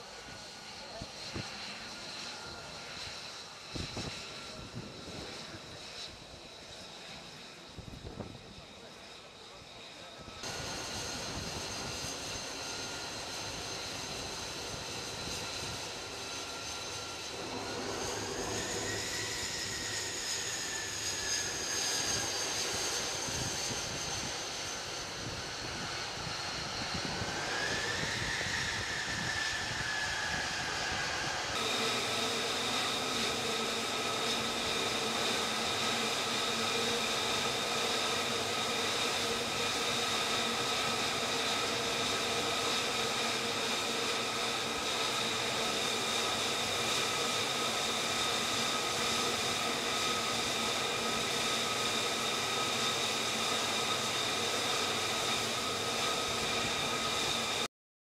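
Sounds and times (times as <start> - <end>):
jet engine whine: 0.0 - 57.7.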